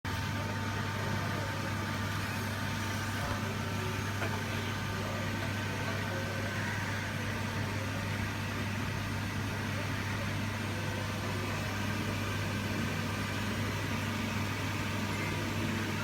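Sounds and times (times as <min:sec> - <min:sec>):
measuring machine humming: 0:00.1 - 0:16.0.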